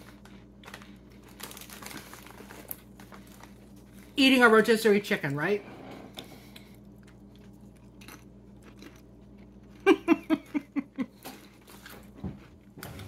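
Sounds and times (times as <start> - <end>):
chewing potato crisps: 0.0 - 4.8, 6.3 - 13.0.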